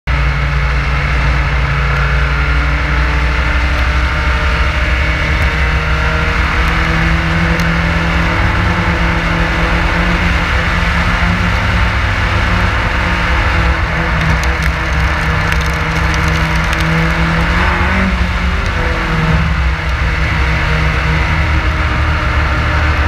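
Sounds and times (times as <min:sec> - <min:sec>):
race car engine at speed: 0:00.1 - 0:23.0.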